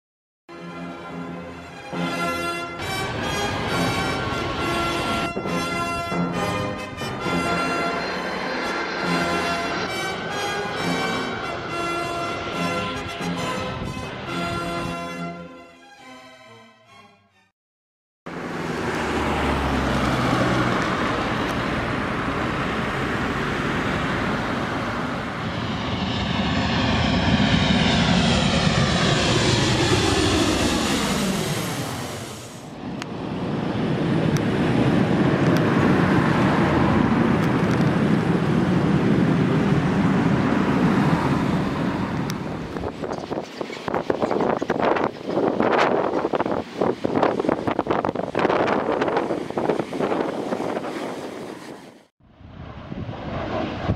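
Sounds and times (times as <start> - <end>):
jet airliner landing: 0.5 - 15.6, 18.3 - 53.9
jet engine whine falling in pitch: 0.6 - 15.3, 18.3 - 53.9.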